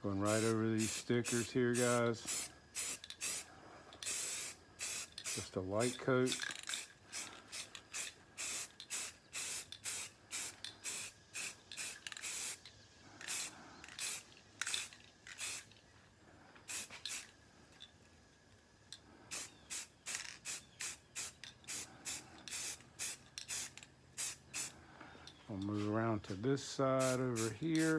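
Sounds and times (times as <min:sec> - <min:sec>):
spray can hissing in spurts: 0:00.2 - 0:15.8, 0:16.7 - 0:17.4, 0:19.3 - 0:24.8, 0:26.8 - 0:27.9.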